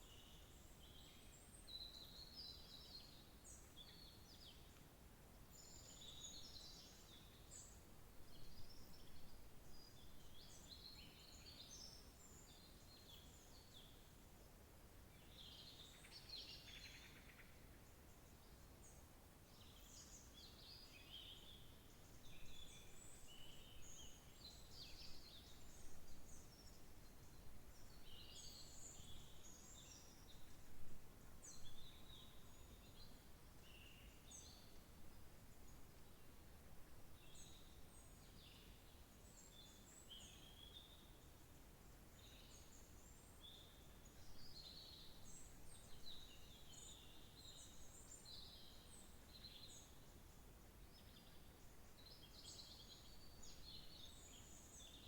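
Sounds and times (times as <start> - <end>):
low background hiss: 0.0 - 55.0.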